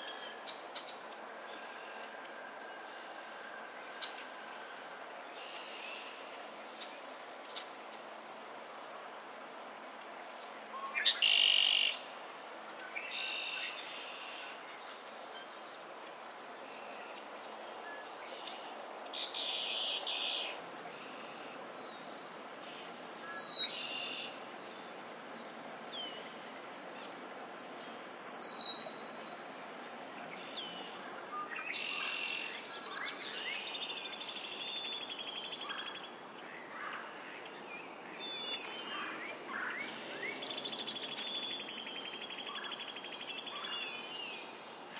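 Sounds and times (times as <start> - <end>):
songbirds singing and calling: 0.0 - 8.4, 10.4 - 44.9
background hiss: 0.0 - 44.9.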